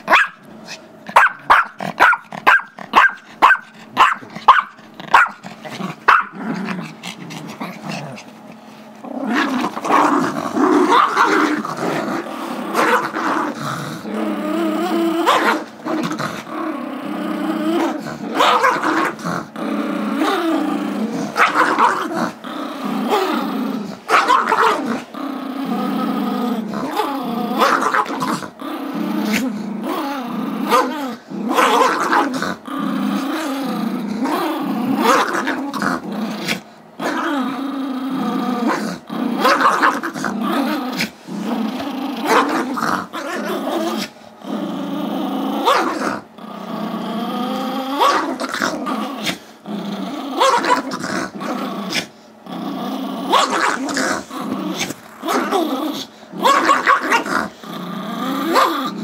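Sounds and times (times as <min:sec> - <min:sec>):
small dogs growling: 0:00.0 - 0:59.0.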